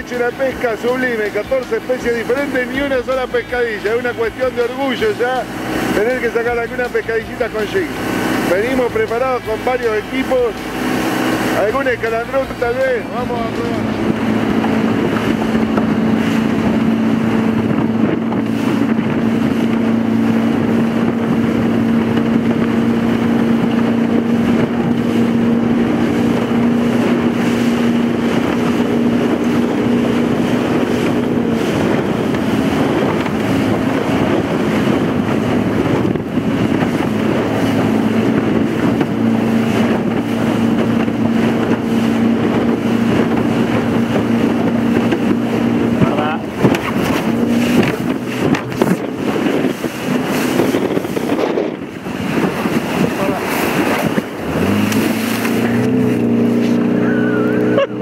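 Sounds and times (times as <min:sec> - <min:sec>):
choppy water: 0:00.0 - 0:58.0
outboard motor running: 0:00.0 - 0:58.0
wind on microphone: 0:00.0 - 0:58.0.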